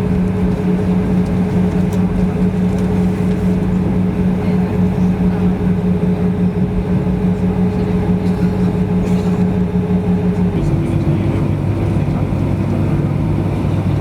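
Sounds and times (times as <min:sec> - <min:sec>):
aircraft cabin engine drone: 0:00.0 - 0:14.0
constant low hums: 0:00.0 - 0:14.0.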